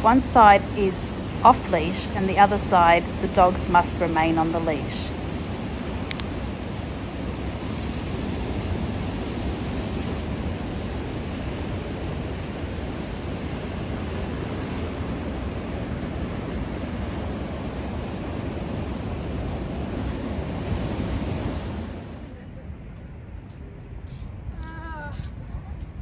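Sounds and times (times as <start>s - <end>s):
ocean surf washing over rocks: 0.0s - 22.3s.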